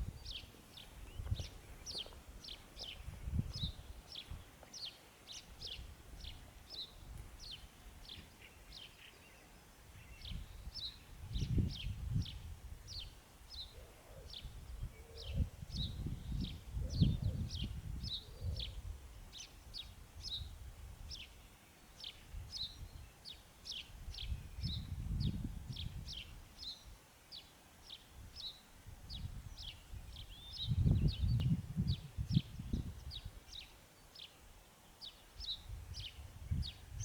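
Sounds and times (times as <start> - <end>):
songbird chirping: 0.0 - 20.5, 21.1 - 37.0.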